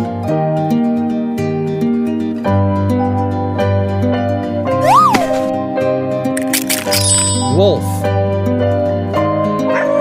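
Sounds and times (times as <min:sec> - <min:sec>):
gentle plucked background music: 0:01.7 - 0:10.0.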